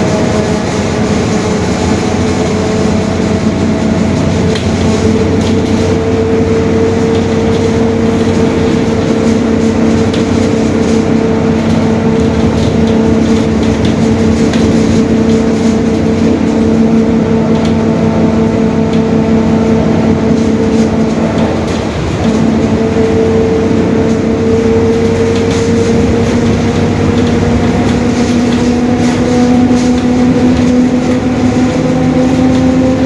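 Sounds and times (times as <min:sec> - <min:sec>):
bus engine running: 0:00.0 - 0:33.0
road noise: 0:00.0 - 0:33.0.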